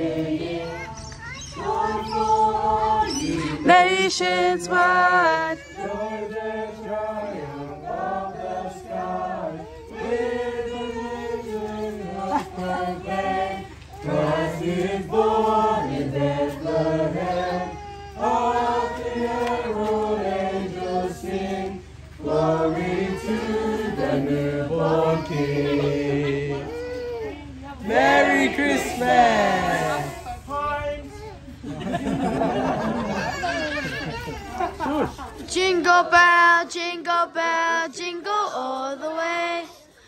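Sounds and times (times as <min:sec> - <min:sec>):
group singing in chorus: 0:00.0 - 0:26.7, 0:27.8 - 0:30.3, 0:35.6 - 0:39.7.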